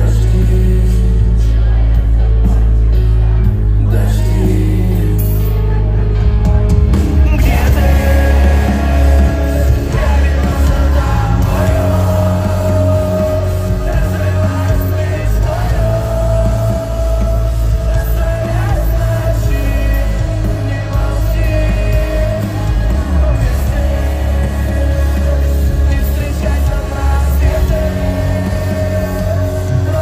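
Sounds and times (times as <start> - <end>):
man singing into microphone: 0.0 - 1.9, 3.6 - 6.0, 7.3 - 30.0
loud concert music with booming bass: 0.0 - 30.0.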